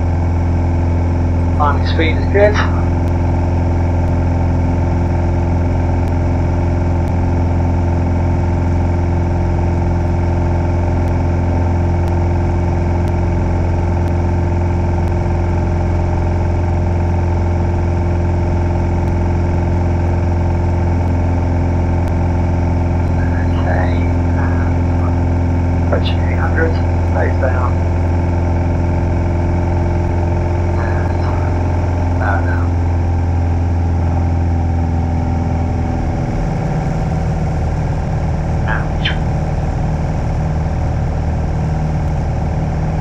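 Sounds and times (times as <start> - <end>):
light aircraft engine running: 0.0 - 43.0.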